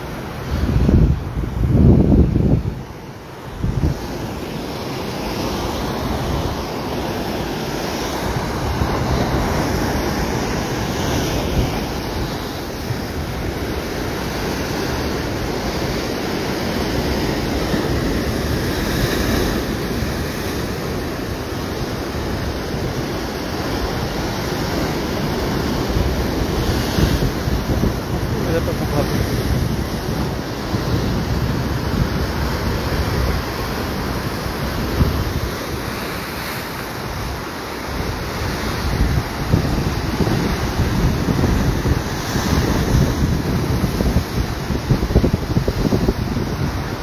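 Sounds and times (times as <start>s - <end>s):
ocean surf washing over rock: 0.0s - 47.0s.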